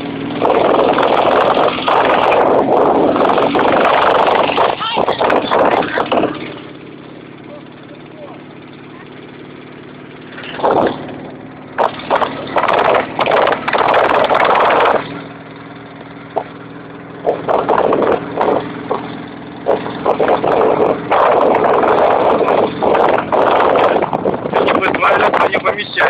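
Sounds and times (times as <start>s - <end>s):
wind noise on microphone: 0.0s - 6.9s, 10.3s - 26.0s
motorcycle engine running: 0.0s - 26.0s.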